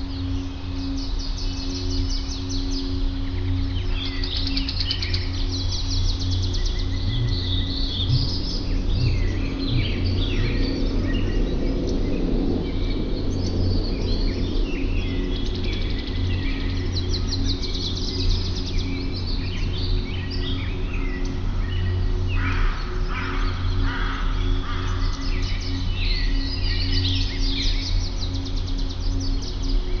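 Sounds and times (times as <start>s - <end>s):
birds chirping and trilling: 0.0s - 30.0s
steady low hum: 0.0s - 30.0s.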